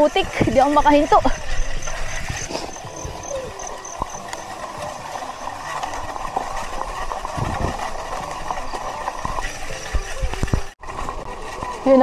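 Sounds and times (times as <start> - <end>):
bicycle tyres on gravel: 0.0 - 12.0
bike rattling: 0.0 - 12.0.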